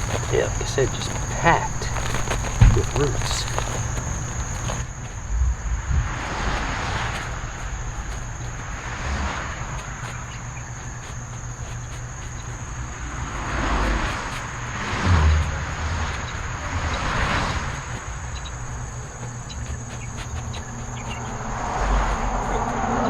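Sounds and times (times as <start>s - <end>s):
soil rustling and scraping: 0.0s - 5.3s, 6.0s - 22.6s
high insect drone: 0.0s - 23.0s.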